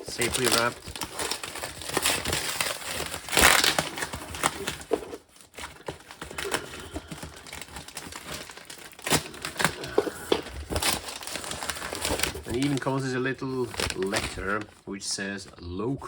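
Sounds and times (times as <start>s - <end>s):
packing paper rustling and crumpling: 0.0s - 15.5s.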